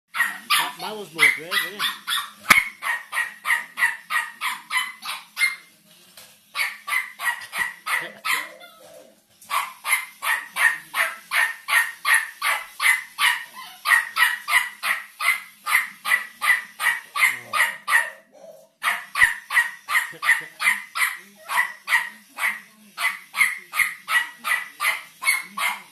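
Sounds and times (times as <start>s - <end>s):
toy robot dog electronic barks: 0.1s - 5.6s, 6.5s - 8.6s, 9.5s - 25.9s.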